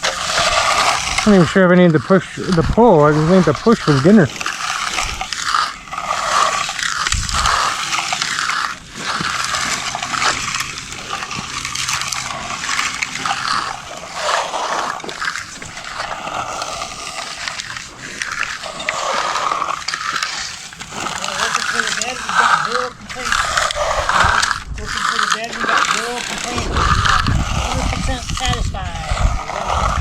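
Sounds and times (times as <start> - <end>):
wet concrete scraping and sloshing: 0.0 - 30.0.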